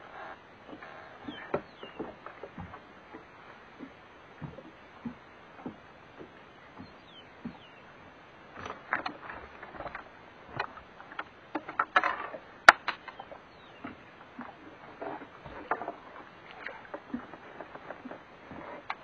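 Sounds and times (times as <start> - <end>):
water splashing against boat hull: 0.0 - 19.0.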